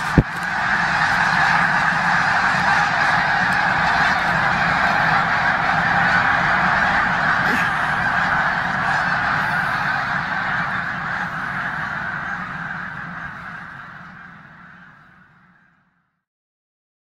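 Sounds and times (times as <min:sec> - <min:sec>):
flock of geese honking: 0:00.0 - 0:16.0.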